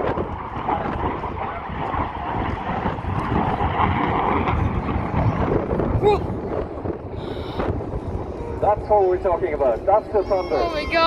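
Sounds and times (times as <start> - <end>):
fighter jet passing: 0.0 - 11.0.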